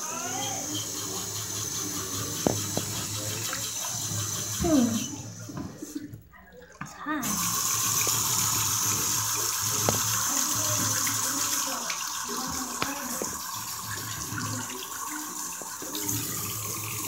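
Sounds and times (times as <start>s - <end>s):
faucet water splashing into basin: 0.0s - 17.0s.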